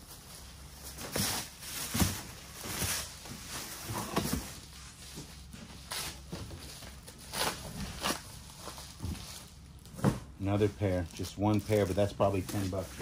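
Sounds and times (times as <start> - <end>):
tissue paper and plastic rustling: 0.0 - 13.0.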